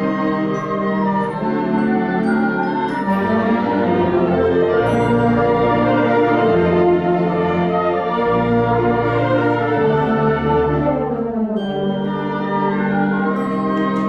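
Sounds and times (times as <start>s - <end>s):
wind band playing: 0.0s - 14.0s.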